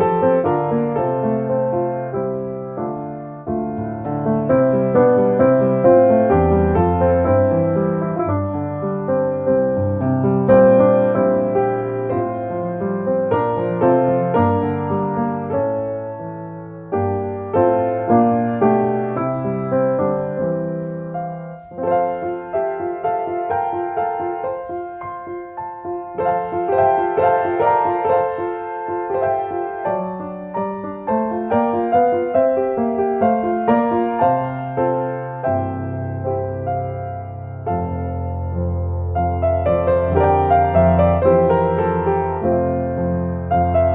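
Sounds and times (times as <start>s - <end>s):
slow gentle piano music: 0.0s - 43.9s.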